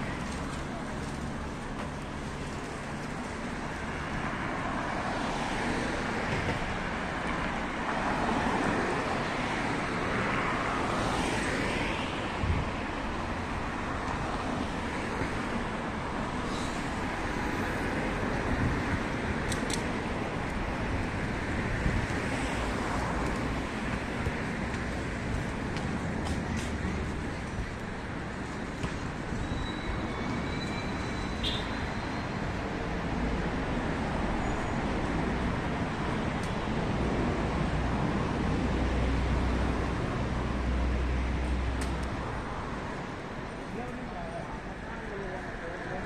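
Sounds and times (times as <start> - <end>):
road traffic hum: 0.0 - 46.0.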